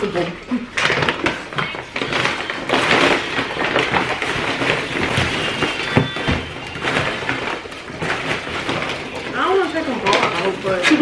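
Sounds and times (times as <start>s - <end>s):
paper bag crinkling: 0.0s - 11.0s.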